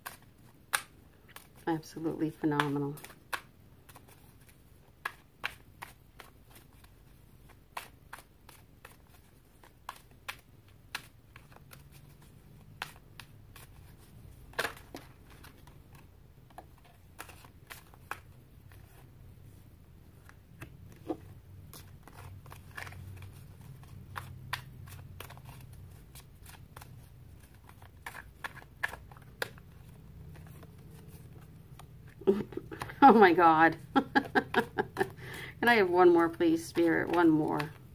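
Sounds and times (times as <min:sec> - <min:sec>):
cards being shuffled: 0:00.0 - 0:37.9.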